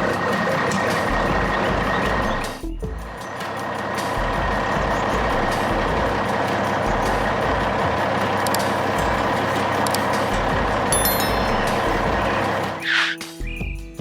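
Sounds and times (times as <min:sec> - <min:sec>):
heavy truck engine running: 0:00.0 - 0:12.8.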